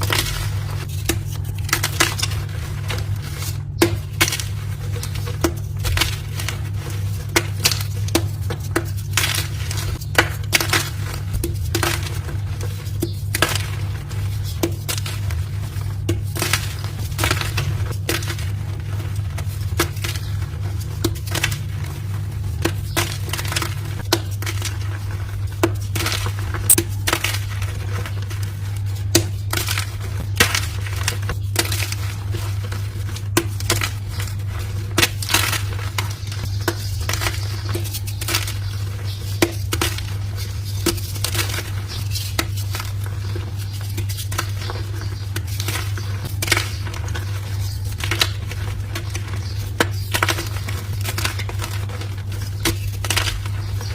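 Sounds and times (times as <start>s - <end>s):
chalk blocks crunching: 0.0s - 53.9s.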